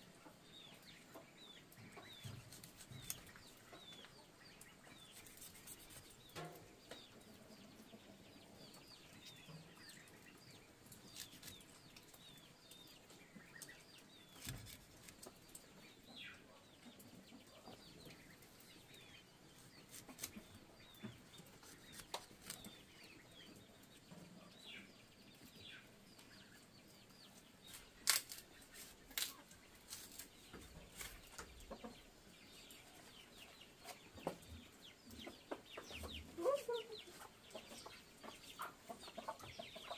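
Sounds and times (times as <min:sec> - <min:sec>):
chickens clucking faintly: 0:00.0 - 0:39.9.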